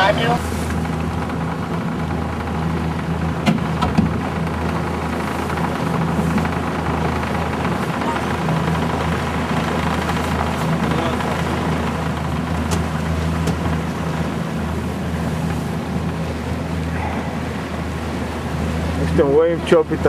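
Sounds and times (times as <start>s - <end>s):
motorboat engine droning: 0.0s - 20.0s
rush of wind and water: 0.0s - 20.0s.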